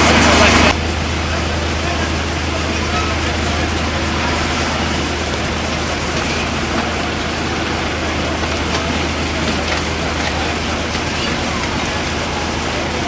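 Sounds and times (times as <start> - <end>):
rushing hiss: 0.0 - 13.0
vehicle engine humming: 0.0 - 13.0.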